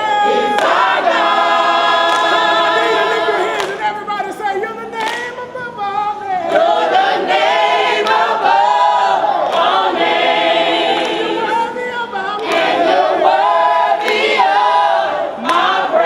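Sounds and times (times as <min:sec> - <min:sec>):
congregation singing worship song: 0:00.0 - 0:16.0.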